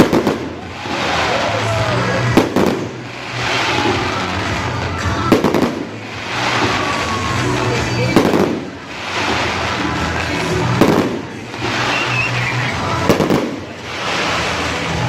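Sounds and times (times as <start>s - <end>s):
fireworks bangs: 0.0s - 15.0s
fireworks crackling: 0.0s - 15.0s
music: 0.0s - 15.0s.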